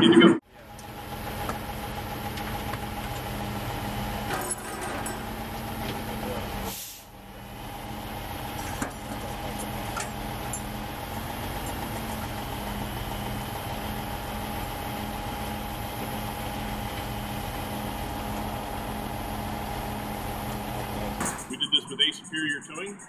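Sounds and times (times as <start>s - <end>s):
diesel engines humming: 0.0s - 23.0s.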